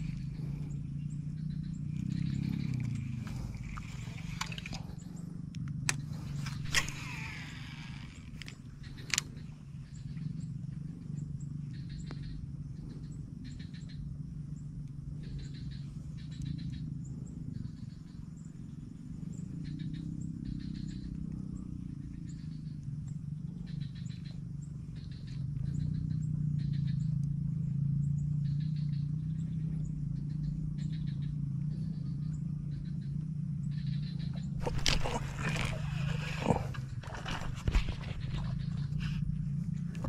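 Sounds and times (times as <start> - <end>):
frogs croaking: 0.0 - 40.0
raspy frog calls: 0.0 - 40.0.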